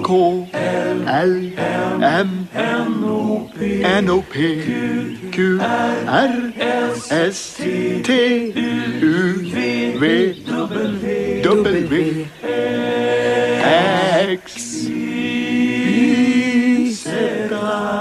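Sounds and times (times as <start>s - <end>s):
chorus of voices chanting: 0.0s - 18.0s.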